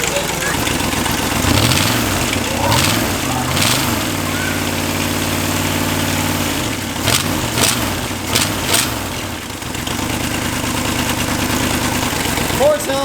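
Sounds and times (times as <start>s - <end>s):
car engine idling and revving: 0.0s - 13.0s
engine pops: 0.0s - 13.0s.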